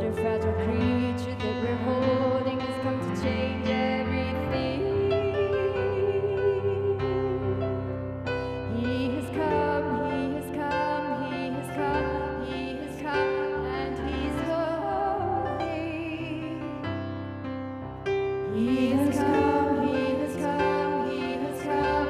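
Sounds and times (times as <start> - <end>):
person singing: 0.0 - 16.9, 18.4 - 22.0.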